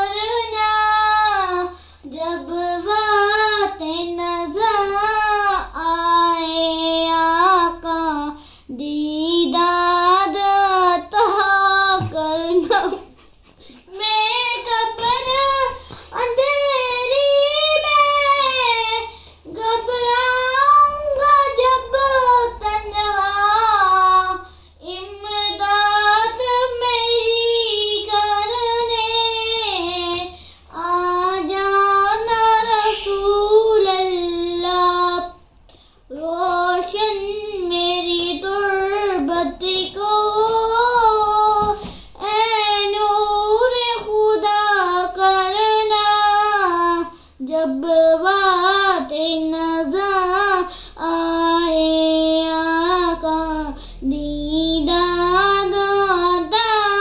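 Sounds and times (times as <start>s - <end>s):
boy singing unaccompanied: 0.0s - 13.1s, 13.8s - 35.4s, 36.1s - 57.0s.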